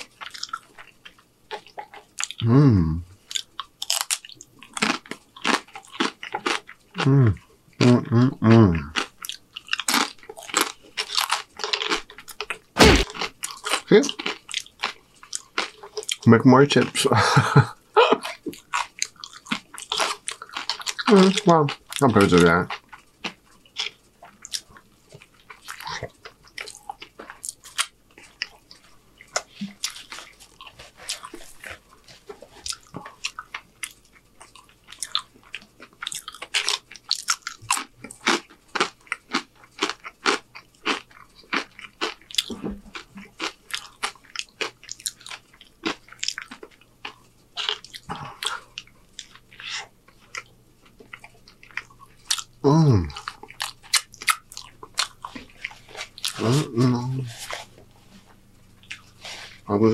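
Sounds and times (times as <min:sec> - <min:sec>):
person crunching chips: 0:03.3 - 0:08.0, 0:08.6 - 0:16.2, 0:18.2 - 0:24.7, 0:25.4 - 0:50.5, 0:51.2 - 0:57.7.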